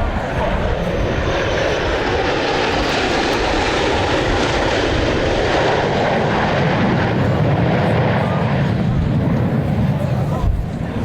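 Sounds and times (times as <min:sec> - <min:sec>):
aircraft engines roaring: 0:00.0 - 0:11.0.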